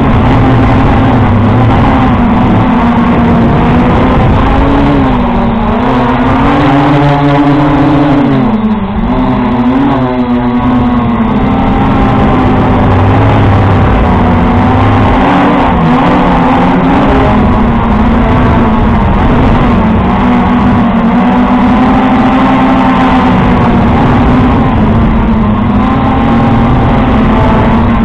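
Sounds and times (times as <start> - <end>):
drone propellers buzzing: 0.0 - 28.0.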